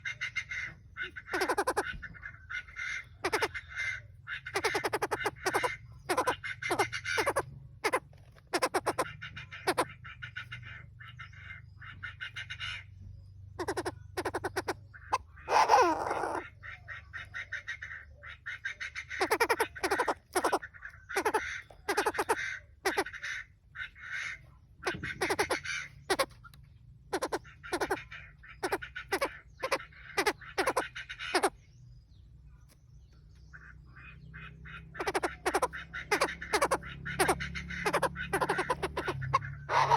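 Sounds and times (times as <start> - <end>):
birds calling harsh repeated notes: 0.0 - 39.9.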